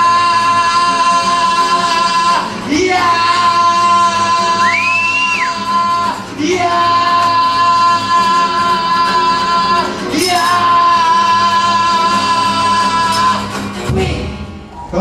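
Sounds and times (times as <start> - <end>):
man singing high held notes: 0.0 - 14.2.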